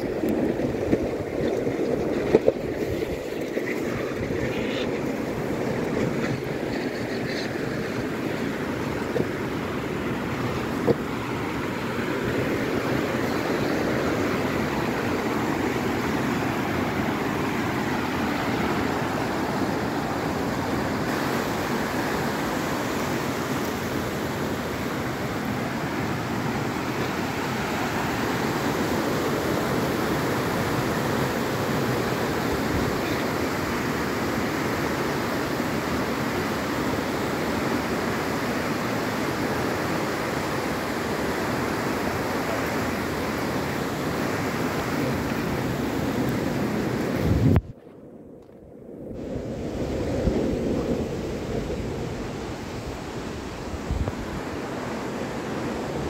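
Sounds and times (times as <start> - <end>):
river rushing over rocks: 0.0 - 47.6.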